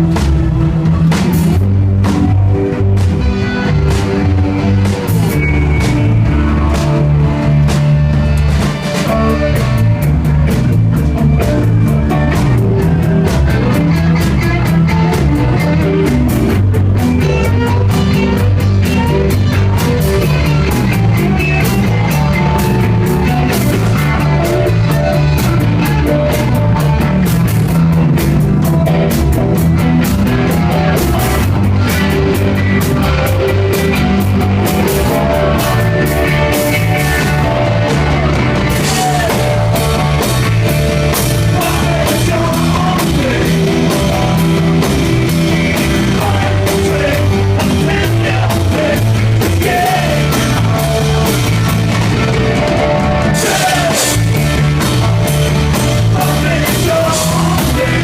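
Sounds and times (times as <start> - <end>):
rock band playing loudly: 0.0 - 58.0.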